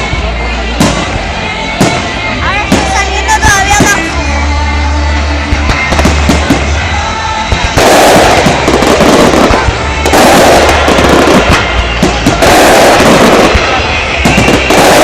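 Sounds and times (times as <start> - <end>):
firework bangs: 0.0 - 4.3, 5.5 - 15.0
firework crackling: 0.0 - 15.0
music with deep bass: 0.0 - 15.0.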